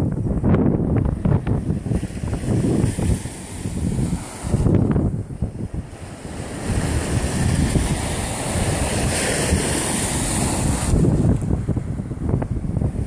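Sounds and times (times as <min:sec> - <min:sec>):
waves washing against shore: 0:00.0 - 0:13.0
wind buffeting microphone: 0:00.0 - 0:13.0.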